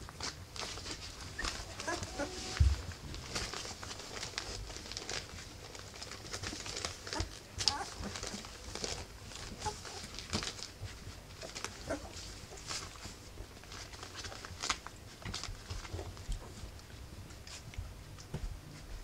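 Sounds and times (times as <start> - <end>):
puppies scrabbling on bedding: 0.0 - 19.0
puppies snuffling: 0.0 - 19.0.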